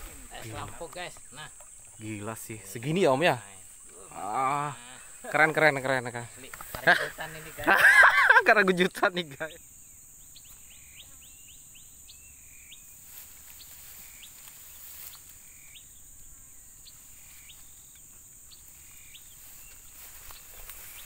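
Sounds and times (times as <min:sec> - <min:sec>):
insect buzz: 0:00.0 - 0:21.0.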